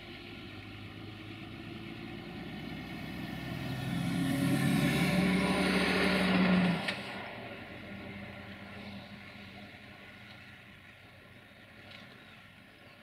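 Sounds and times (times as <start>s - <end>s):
lorry diesel engine: 0.0s - 13.0s.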